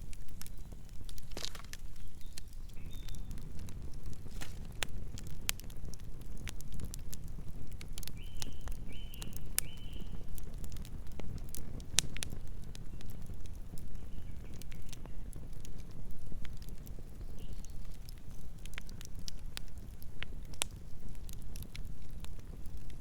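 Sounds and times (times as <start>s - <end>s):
low rumble of flames: 0.0s - 23.0s
wood crackling and popping: 0.0s - 23.0s.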